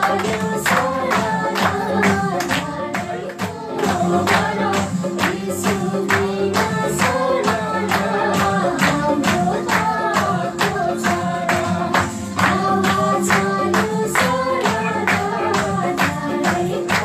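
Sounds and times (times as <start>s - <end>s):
percussion beat: 0.0s - 17.0s
upbeat song with singing: 0.0s - 17.0s.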